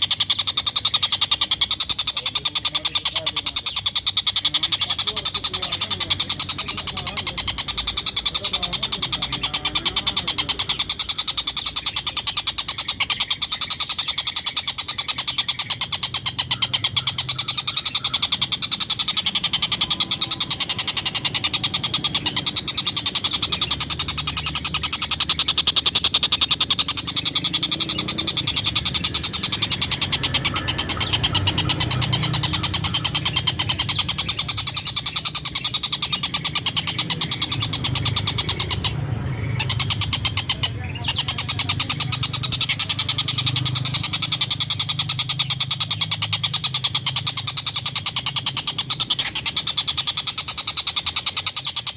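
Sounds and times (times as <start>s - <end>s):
kingfisher chattering: 0.0s - 51.9s.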